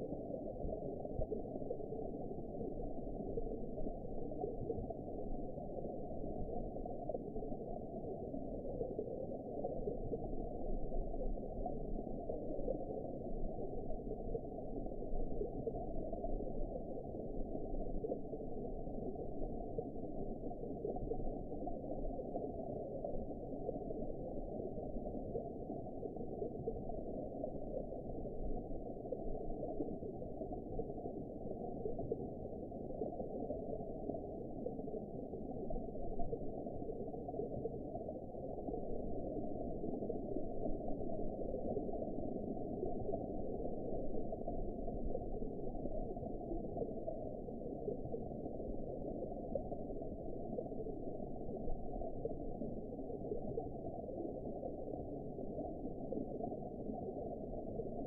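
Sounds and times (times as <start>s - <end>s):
muffled underwater water noise: 0.0s - 58.0s.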